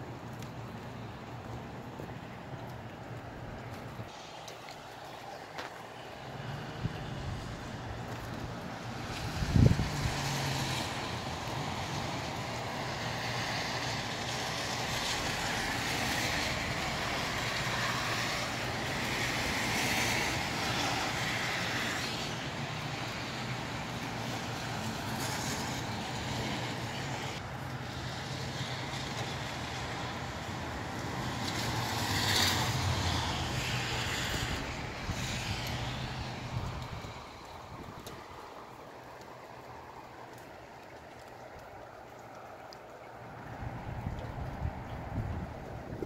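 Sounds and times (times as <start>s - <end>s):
light rain and gusty wind: 0.0s - 46.0s.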